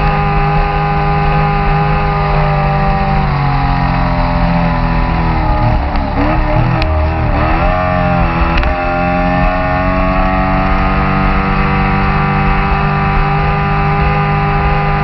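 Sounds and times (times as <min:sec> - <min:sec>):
race boat engine at high revs: 0:00.0 - 0:15.0.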